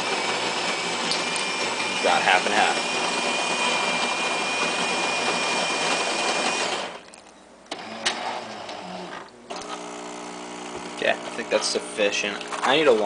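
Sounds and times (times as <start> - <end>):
coffee machine whine: 0.0 - 7.0, 7.7 - 13.0.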